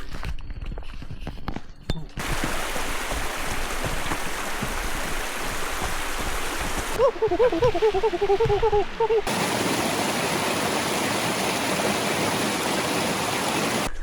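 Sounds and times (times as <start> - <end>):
river water rushing: 2.2 - 13.9.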